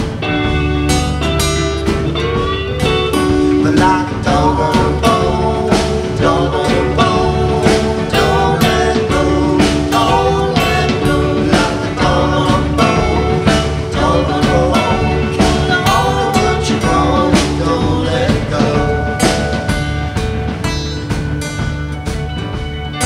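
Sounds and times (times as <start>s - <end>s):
drum kit steady beat: 0.0s - 23.0s.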